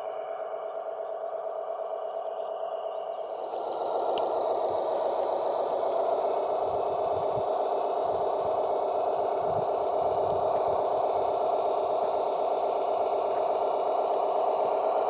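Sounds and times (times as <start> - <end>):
model vehicle buzzing hum: 2.6 - 15.0.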